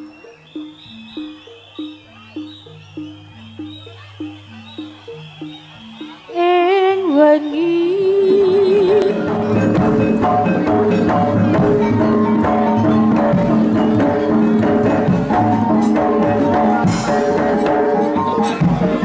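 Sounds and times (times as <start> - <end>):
tuned metal percussion melody: 0.0 - 18.7
drums: 0.0 - 19.0.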